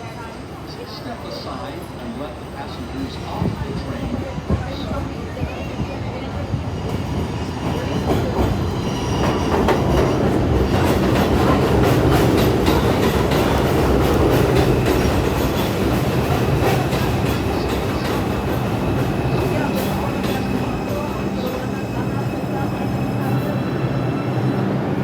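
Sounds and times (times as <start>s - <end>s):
subway train running: 0.0s - 25.0s.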